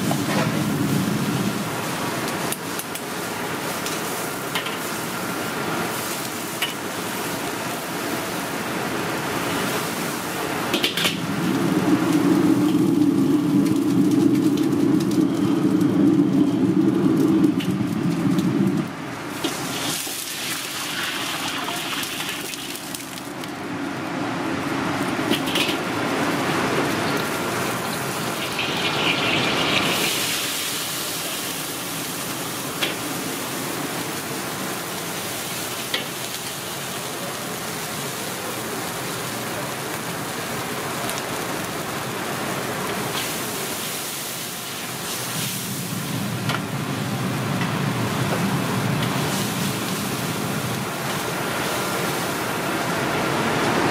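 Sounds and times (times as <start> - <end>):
gas burner rushing: 0.0 - 53.9.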